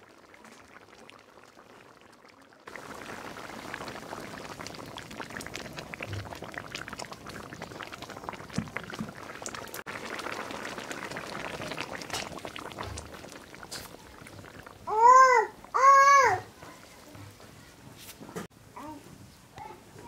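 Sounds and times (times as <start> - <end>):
curry bubbling in a pot: 0.0 - 17.6.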